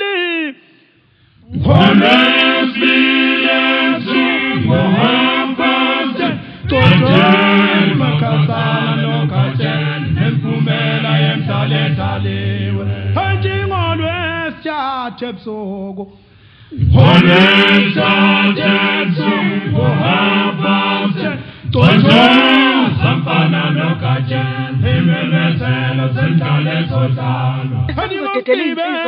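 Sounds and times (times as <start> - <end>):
male choir singing in harmony: 1.5 - 14.5, 16.8 - 29.0.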